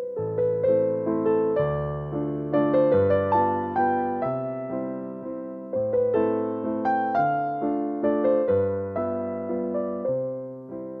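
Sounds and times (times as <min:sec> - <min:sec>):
gentle piano tune: 0:00.0 - 0:11.0.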